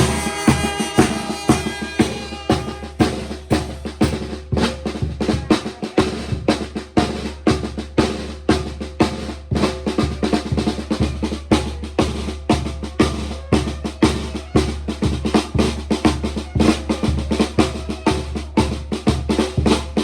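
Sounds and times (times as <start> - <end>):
drumming steady beat: 0.0 - 20.0.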